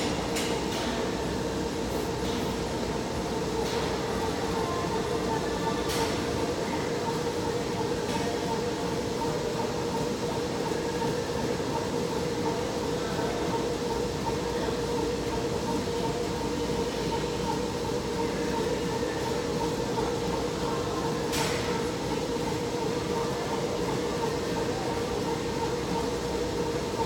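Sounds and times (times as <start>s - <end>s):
treadmill rumbling: 0.0s - 27.0s.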